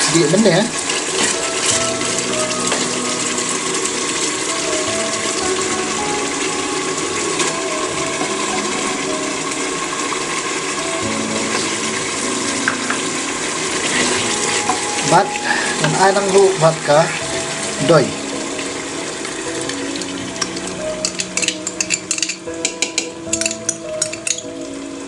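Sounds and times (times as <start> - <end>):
curry sizzling in a pot: 0.0 - 25.0.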